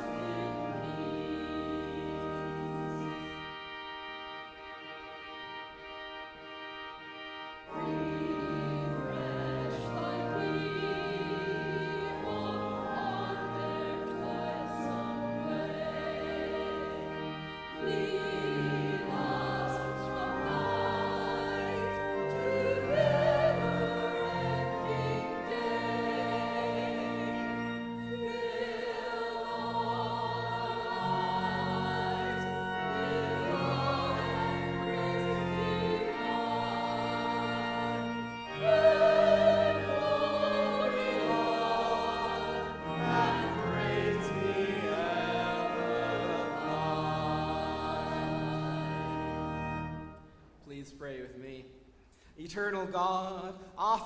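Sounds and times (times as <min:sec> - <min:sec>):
voices singing a hymn: 0:00.0 - 0:06.4, 0:07.5 - 0:50.2
instrumental accompaniment: 0:00.0 - 0:50.8.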